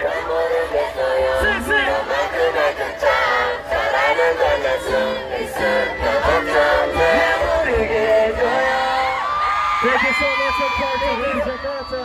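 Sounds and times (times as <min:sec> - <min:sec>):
crowd singing together: 0:00.0 - 0:09.8
live pop music: 0:00.0 - 0:11.6.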